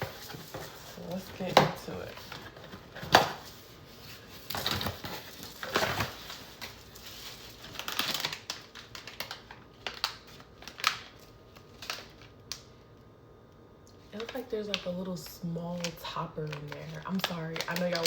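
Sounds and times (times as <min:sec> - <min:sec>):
packaging crinkling and rustling: 0:00.0 - 0:12.8, 0:14.0 - 0:18.0.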